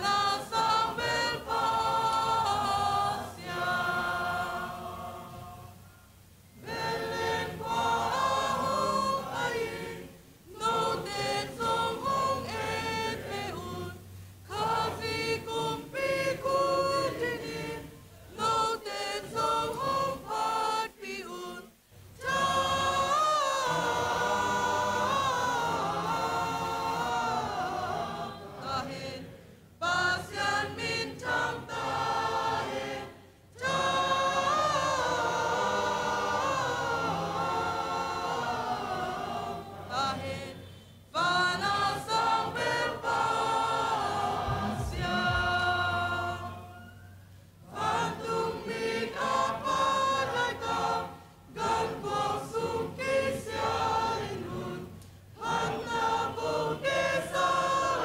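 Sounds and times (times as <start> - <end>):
youth choir singing: 0.0 - 58.0.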